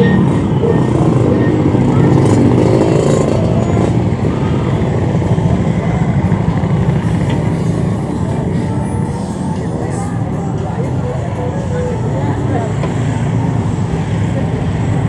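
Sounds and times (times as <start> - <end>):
motorbike engines revving: 0.0 - 15.0
street traffic: 0.0 - 15.0.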